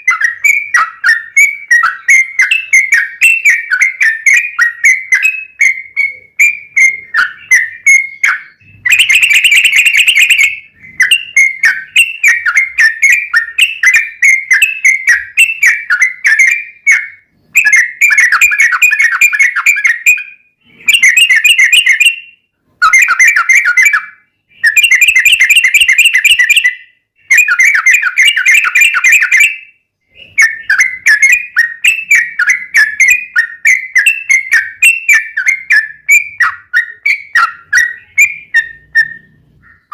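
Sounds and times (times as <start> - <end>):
bird chattering whistled song: 0.0 - 39.9.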